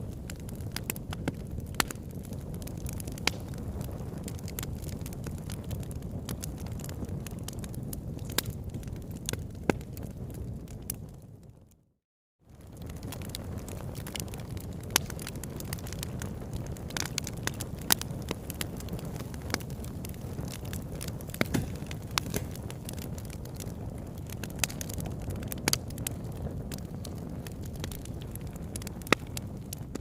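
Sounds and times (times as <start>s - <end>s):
campfire crackling and popping: 0.0s - 11.8s, 12.5s - 30.0s.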